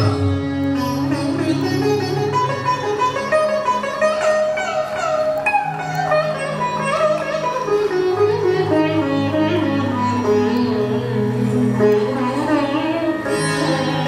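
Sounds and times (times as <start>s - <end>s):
classical dance music: 0.0s - 14.0s.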